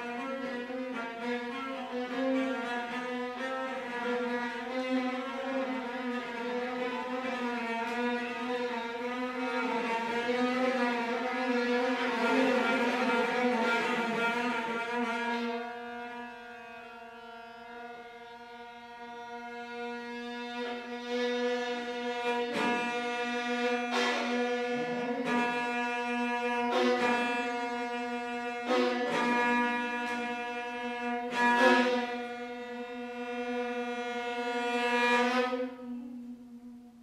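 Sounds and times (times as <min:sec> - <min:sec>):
violin and cello duo: 0:00.0 - 0:36.9.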